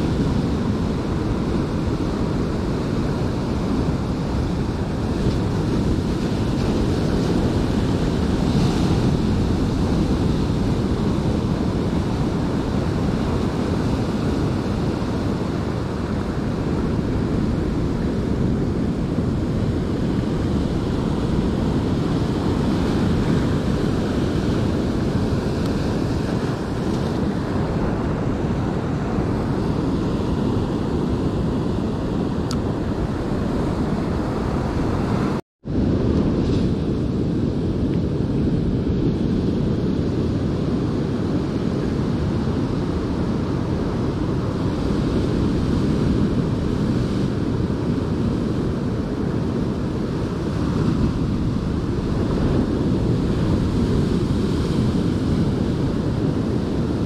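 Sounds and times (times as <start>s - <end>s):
ocean surf on rocky shore: 0.0s - 57.0s
wind buffeting microphone: 0.0s - 57.0s.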